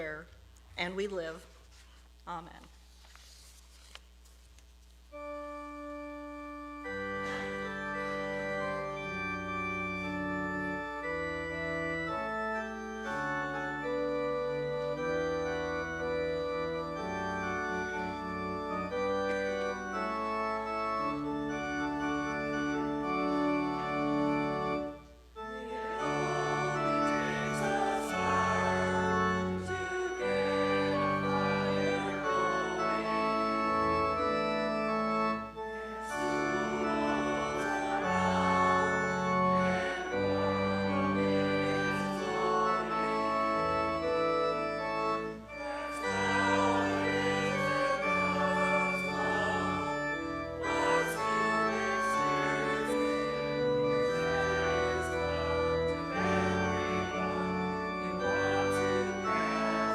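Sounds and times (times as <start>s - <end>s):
organ playing sustained chords: 0.0s - 1.8s, 5.0s - 59.9s.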